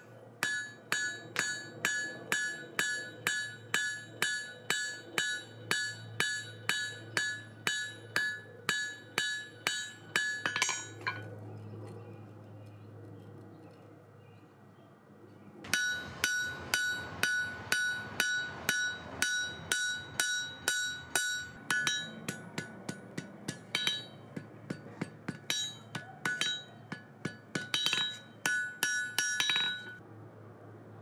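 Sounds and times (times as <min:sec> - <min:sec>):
hammer blows ringing on anvil: 0:00.4 - 0:11.2, 0:15.7 - 0:30.0.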